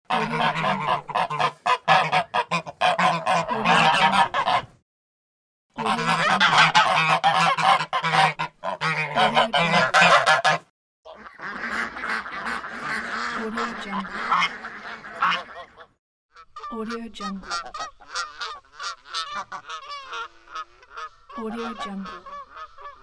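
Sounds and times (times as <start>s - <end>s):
geese honking: 0.1s - 4.7s, 5.8s - 23.0s.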